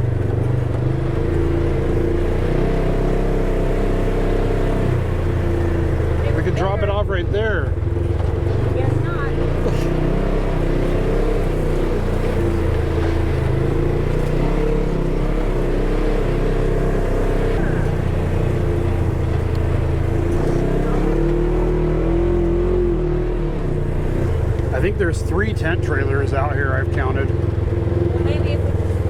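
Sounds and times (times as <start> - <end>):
utility vehicle engine running: 0.0 - 29.0.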